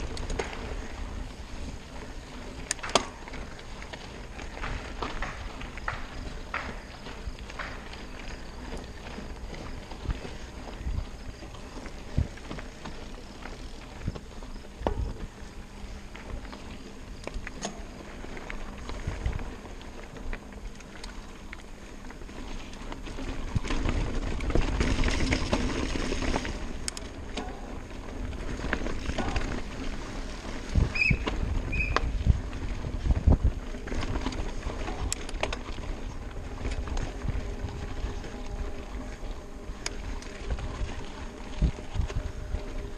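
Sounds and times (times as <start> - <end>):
bike chain and frame rattling: 0.0 - 42.9
bike tyres crunching on gravel: 0.0 - 42.9.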